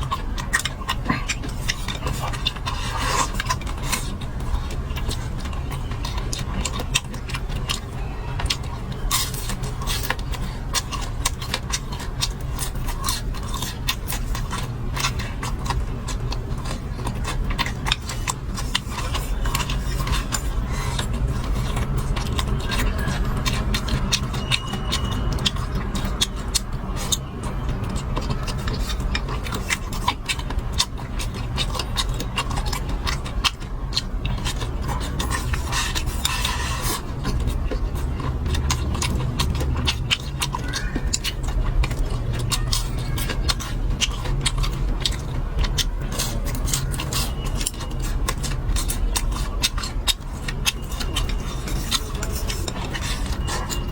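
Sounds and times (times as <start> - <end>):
chewing: 0.0 - 53.9
utensils clicking on dishes: 0.0 - 53.9.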